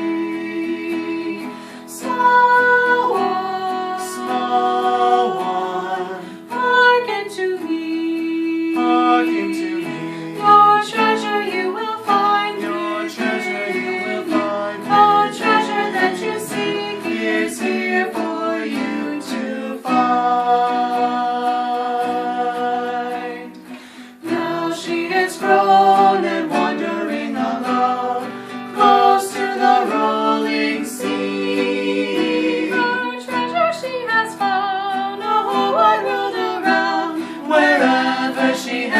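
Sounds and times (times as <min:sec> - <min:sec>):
person singing: 0:00.0 - 0:38.9
plucked acoustic guitar: 0:00.0 - 0:38.9.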